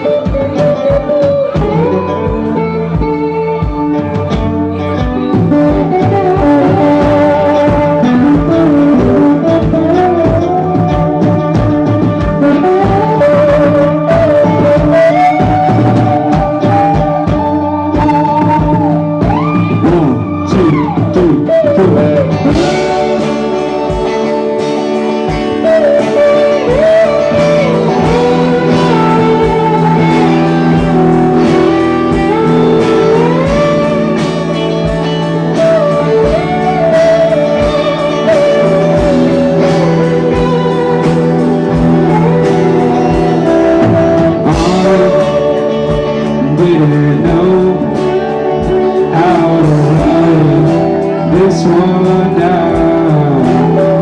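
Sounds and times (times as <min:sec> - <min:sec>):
person singing: 0:00.0 - 0:54.0
slide guitar: 0:00.0 - 0:54.0
steady drum beat: 0:00.0 - 0:54.0.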